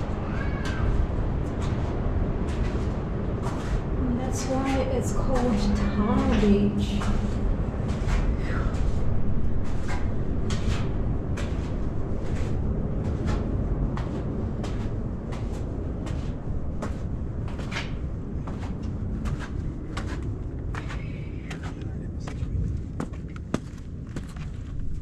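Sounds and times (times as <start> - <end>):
footsteps walking: 0.0 - 25.0
steady low rumble: 0.0 - 25.0.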